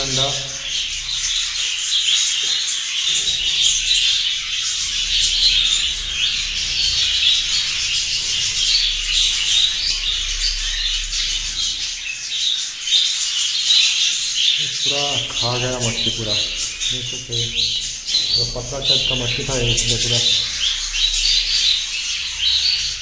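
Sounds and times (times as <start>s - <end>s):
budgerigars chattering and warbling: 0.0s - 23.0s.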